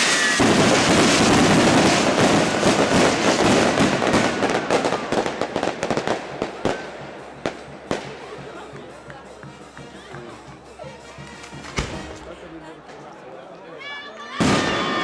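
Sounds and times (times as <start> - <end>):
fireworks crackling and banging: 0.0 - 13.0, 14.4 - 15.0.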